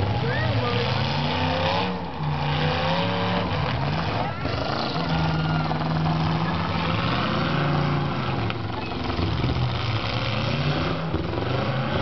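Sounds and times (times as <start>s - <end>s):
car engines running under load: 0.0s - 12.0s.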